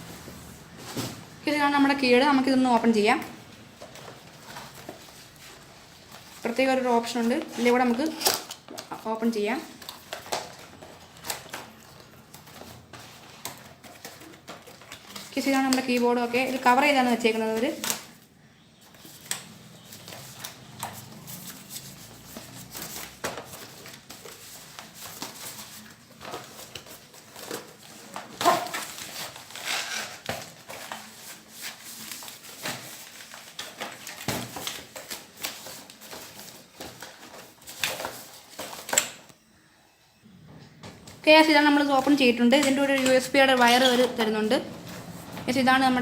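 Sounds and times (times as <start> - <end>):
plastic and box rustling: 2.3 - 18.2, 18.8 - 39.3, 41.0 - 46.0.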